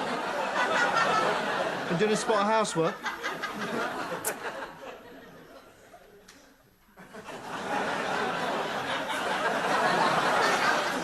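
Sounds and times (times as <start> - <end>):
studio audience laughing: 0.0 - 6.3, 7.0 - 11.0.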